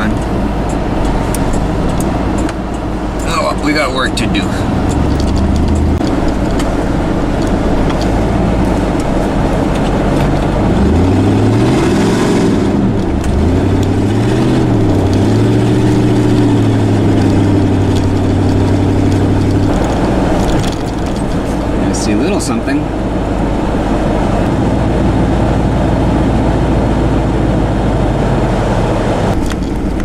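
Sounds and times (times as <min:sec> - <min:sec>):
road noise: 0:00.0 - 0:30.0
vehicle engine revving: 0:00.0 - 0:30.0.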